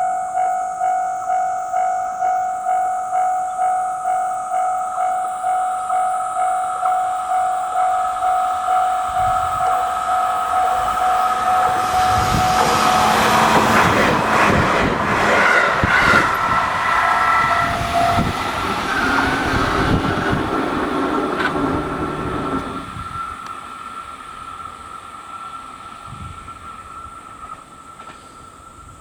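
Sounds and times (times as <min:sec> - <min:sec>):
crossing warning bell ringing: 0:00.0 - 0:29.0
electric train passing: 0:00.0 - 0:29.0
wheels clacking on rail joints: 0:05.0 - 0:29.0.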